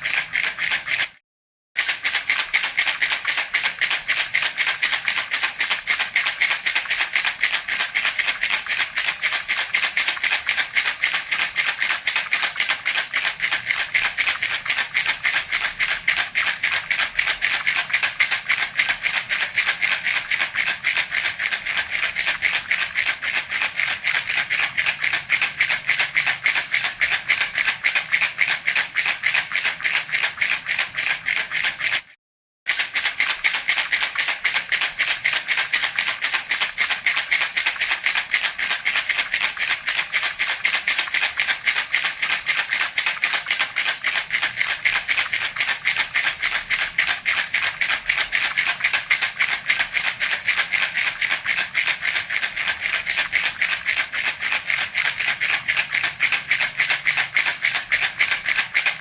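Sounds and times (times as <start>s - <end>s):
baby rattle shaken: 0.0s - 1.2s, 1.8s - 59.0s.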